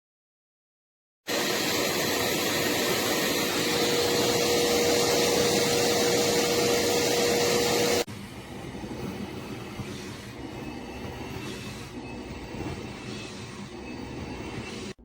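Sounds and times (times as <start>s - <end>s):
vacuum running with whine: 1.3s - 15.0s.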